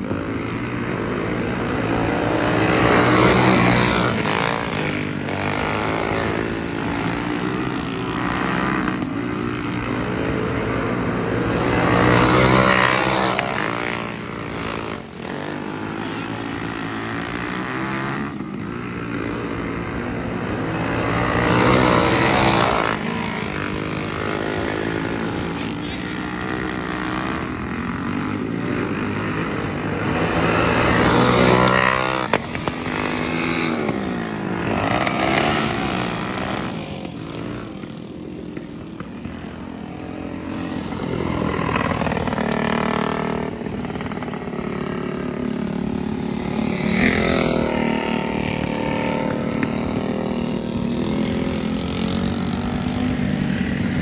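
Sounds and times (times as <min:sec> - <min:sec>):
racing kart engines: 0:00.0 - 0:54.0.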